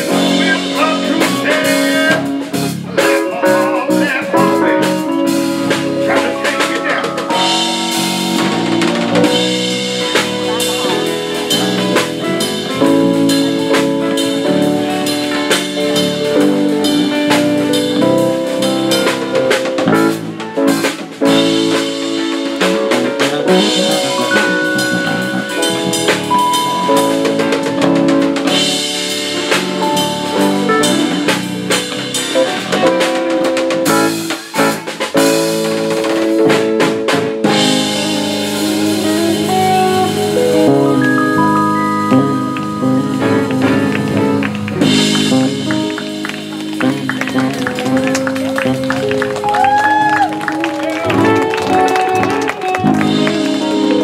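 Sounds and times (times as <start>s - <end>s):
drum kit: 0.0s - 54.0s
guitars: 0.0s - 54.0s
keyboard: 0.0s - 54.0s.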